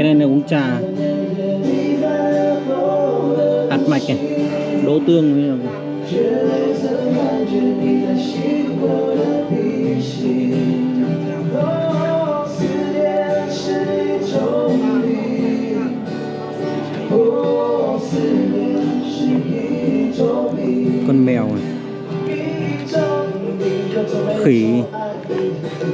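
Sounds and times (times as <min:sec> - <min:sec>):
music with man singing: 0:00.0 - 0:25.9.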